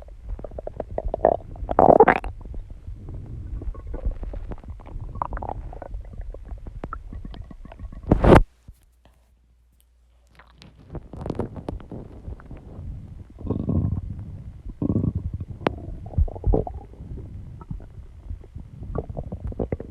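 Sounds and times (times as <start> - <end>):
stomach growling and gurgling: 0.0 - 8.5, 10.3 - 19.9.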